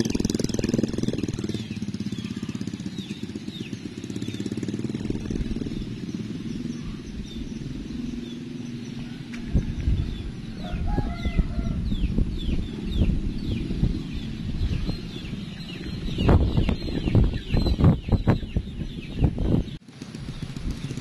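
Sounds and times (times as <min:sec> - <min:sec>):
high bird chirps: 0:00.0 - 0:21.0
wind buffeting microphone: 0:00.0 - 0:21.0.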